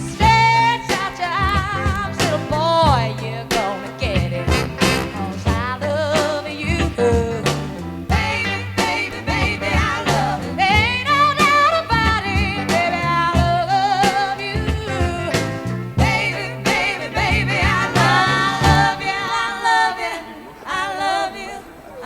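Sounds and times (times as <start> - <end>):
song with sung vocals and drums: 0.0 - 21.8.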